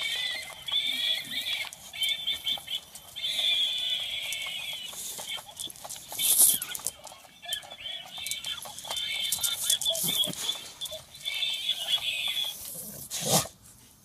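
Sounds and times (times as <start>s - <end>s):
toy electronic squeaking: 0.0s - 12.6s
small ticks and clicks: 0.0s - 12.8s.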